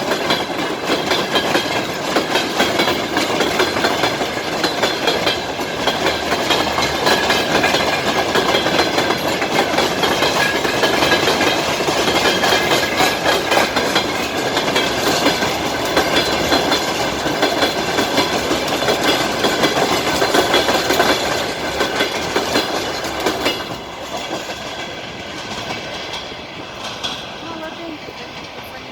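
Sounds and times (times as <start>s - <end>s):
train wheels clicking over rail joints: 0.0s - 28.9s.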